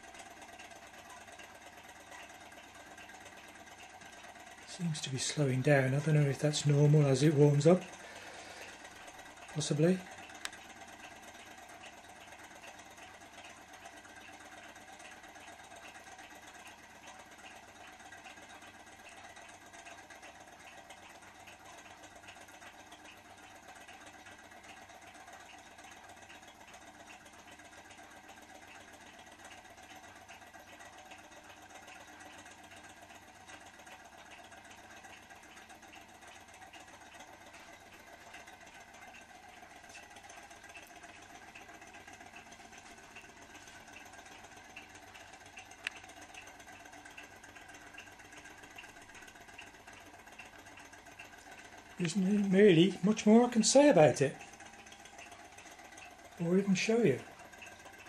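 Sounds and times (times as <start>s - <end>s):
toy engine whirring and ticking: 0.0s - 58.0s.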